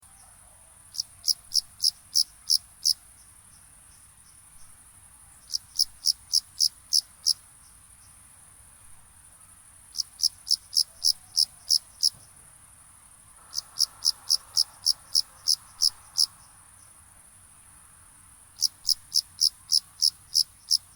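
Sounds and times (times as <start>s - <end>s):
crickets chirping: 0.0s - 20.9s.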